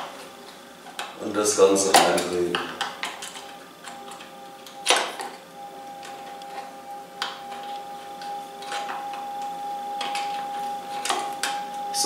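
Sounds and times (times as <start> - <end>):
steady high tone: 0.0 - 12.0.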